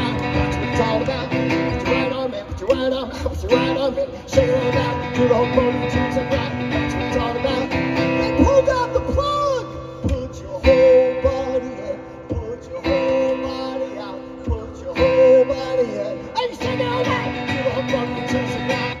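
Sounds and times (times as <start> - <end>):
acoustic guitar strumming: 0.0 - 19.0
person singing: 0.0 - 19.0.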